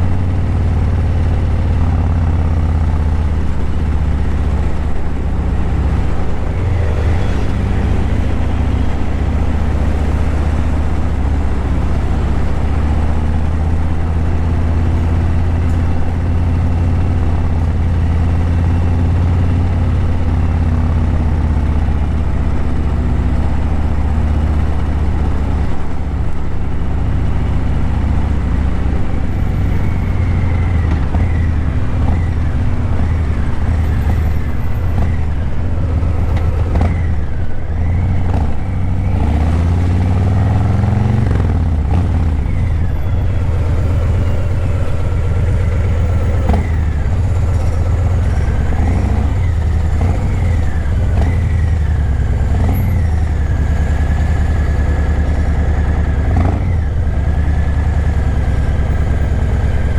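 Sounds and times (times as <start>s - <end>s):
motorcycle exhaust rumble: 0.0s - 59.9s.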